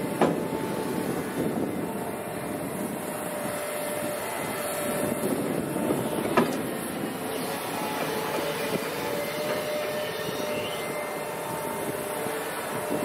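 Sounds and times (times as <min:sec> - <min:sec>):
excavator diesel engine working: 0:00.0 - 0:13.0
steady hydraulic whine: 0:00.0 - 0:13.0.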